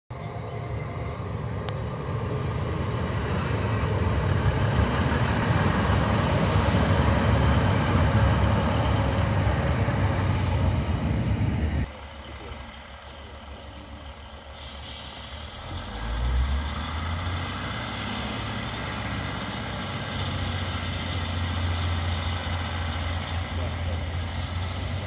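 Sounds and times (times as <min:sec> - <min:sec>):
diesel train rumble: 0:00.1 - 0:25.0.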